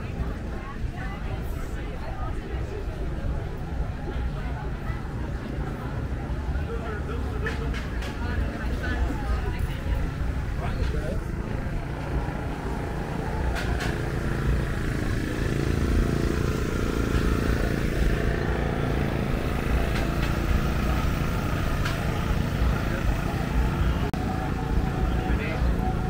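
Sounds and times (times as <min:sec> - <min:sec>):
low street rumble: 0:00.0 - 0:26.0
people's voices: 0:00.0 - 0:26.0.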